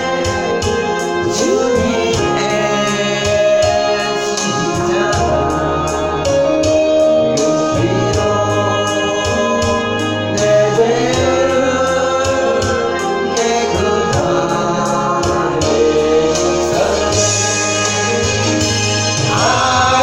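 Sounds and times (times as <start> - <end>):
group singing worship song: 0.0 - 20.0
keyboard accompaniment: 0.0 - 20.0.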